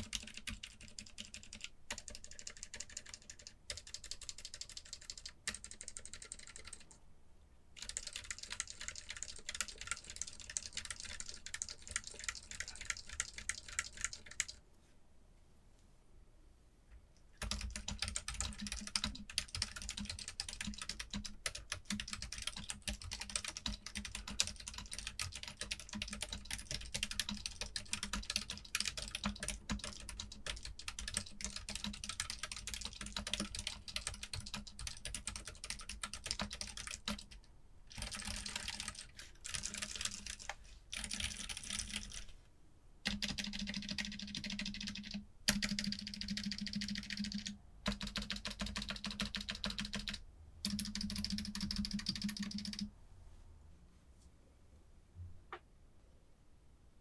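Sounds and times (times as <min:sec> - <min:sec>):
fast typing on a muted keyboard: 0:00.0 - 0:07.0, 0:07.8 - 0:14.6, 0:17.4 - 0:42.3, 0:43.0 - 0:52.9.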